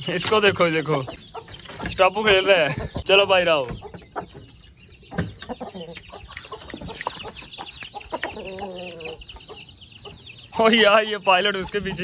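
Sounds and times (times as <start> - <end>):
chickens clucking: 0.0 - 12.0
chicks peeping: 0.0 - 12.0.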